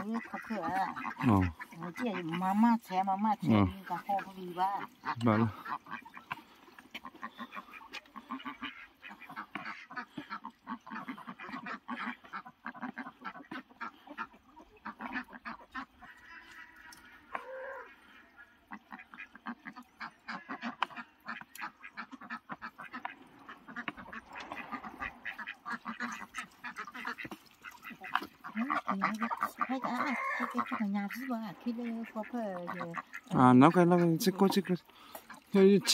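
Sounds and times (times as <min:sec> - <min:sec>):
ducks quacking: 0:00.0 - 0:35.9
goose-like honking: 0:00.0 - 0:35.9.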